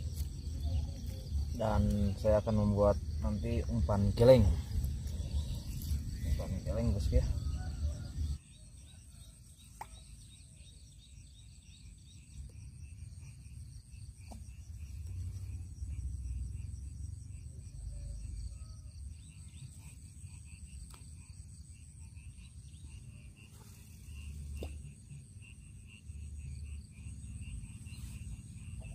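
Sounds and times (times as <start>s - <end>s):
insects chirping: 0.0s - 28.9s.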